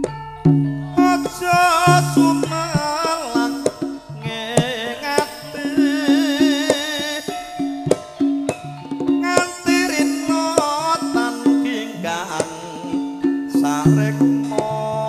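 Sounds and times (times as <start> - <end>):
hand drum strokes: 0.0 - 15.0
wavering vocal line: 0.0 - 15.0.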